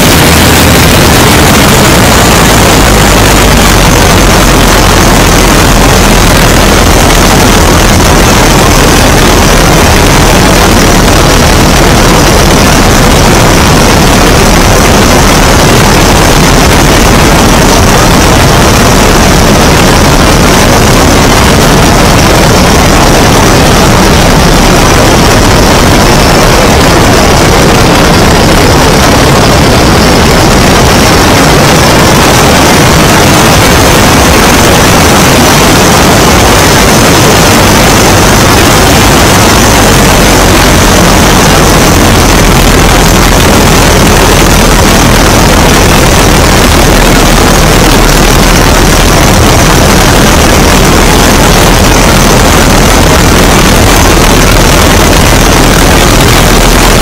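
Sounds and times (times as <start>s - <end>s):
propeller plane engine: 0.0s - 57.0s
wind noise on microphone: 0.0s - 57.0s.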